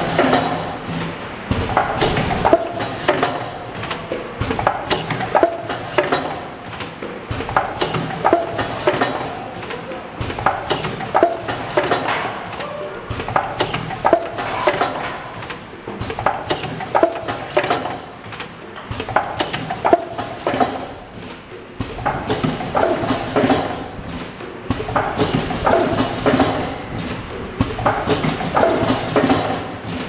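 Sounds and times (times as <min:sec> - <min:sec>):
machine clacks and knocks: 0:00.0 - 0:30.0
steady mechanical background: 0:00.0 - 0:30.0.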